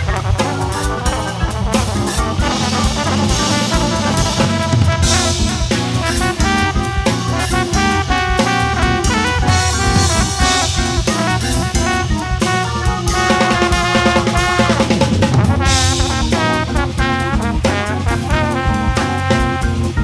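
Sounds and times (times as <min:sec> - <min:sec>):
busy drum kit: 0:00.0 - 0:20.0
organ keyboard: 0:00.0 - 0:20.0
trombone: 0:00.0 - 0:20.0.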